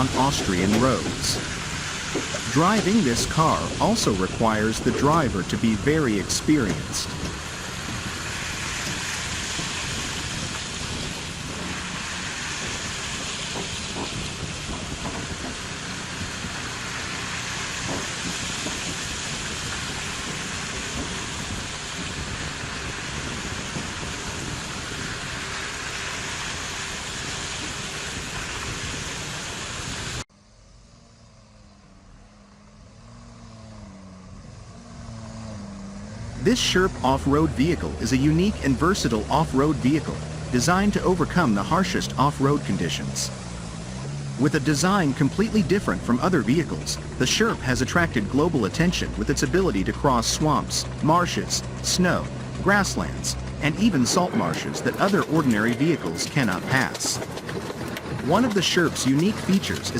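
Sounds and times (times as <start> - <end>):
loud steady rushing noise: 0.0 - 30.2, 34.7 - 59.9
heavy truck tyre and road noise: 0.0 - 59.9
vehicle engine running: 0.0 - 59.9.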